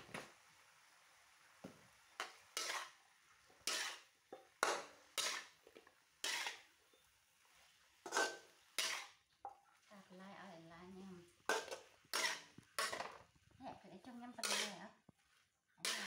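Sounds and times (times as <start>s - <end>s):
metal spatula scraping wok: 2.1s - 16.0s.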